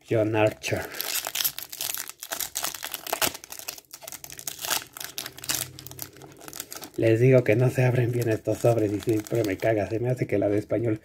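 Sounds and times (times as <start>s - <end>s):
foil wrapper crinkling and tearing: 0.4s - 10.7s.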